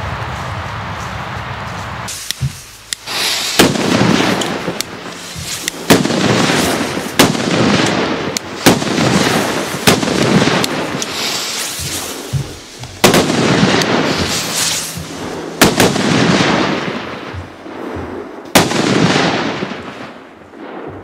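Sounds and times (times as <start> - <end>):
steady rushing noise: 0.0 - 20.3
firecrackers banging: 0.0 - 21.0.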